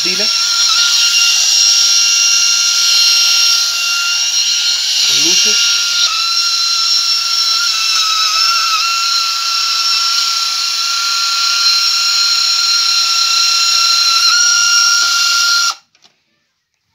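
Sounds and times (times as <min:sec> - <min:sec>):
toy motor whining: 0:00.0 - 0:15.9.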